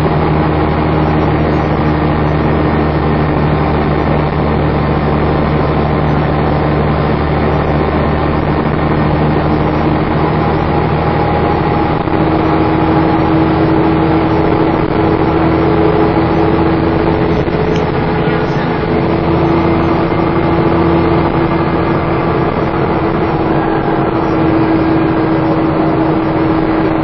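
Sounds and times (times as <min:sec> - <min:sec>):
bus engine running: 0:00.0 - 0:27.0
engine whine: 0:00.0 - 0:27.0.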